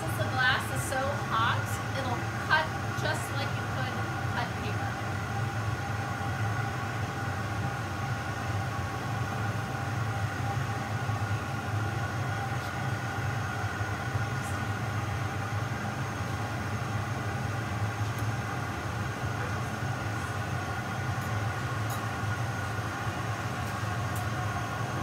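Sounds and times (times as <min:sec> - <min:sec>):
furnace roaring: 0:00.0 - 0:25.0
ventilation hum: 0:00.0 - 0:25.0.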